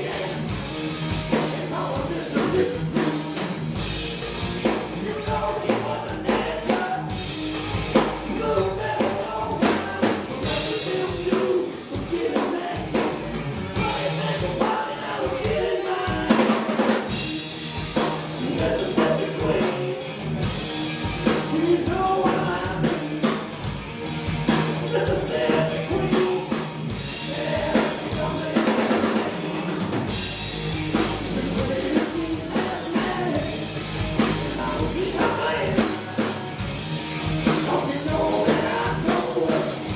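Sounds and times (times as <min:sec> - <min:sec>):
bass guitar: 0:00.0 - 0:39.9
drum kit: 0:00.0 - 0:39.9
electric guitar lines: 0:00.0 - 0:39.9.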